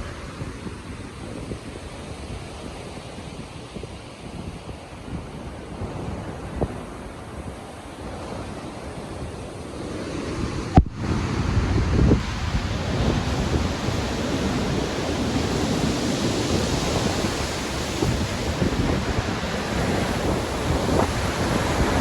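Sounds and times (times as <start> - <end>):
ocean waves breaking: 0.0 - 22.0
wind: 0.0 - 22.0.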